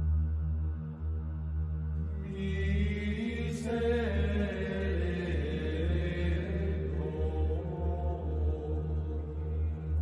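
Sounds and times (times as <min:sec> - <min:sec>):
low steady drone: 0:00.0 - 0:10.0.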